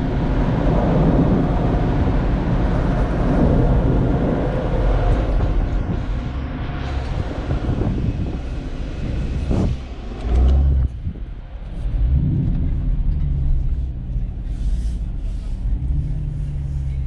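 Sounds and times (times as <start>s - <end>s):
vehicle exhaust deep rumble: 0.0s - 17.0s.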